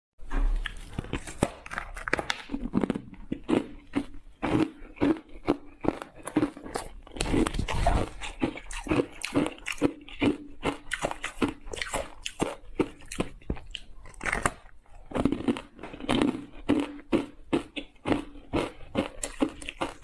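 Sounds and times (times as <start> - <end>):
ice cubes crunching: 0.7 - 20.0.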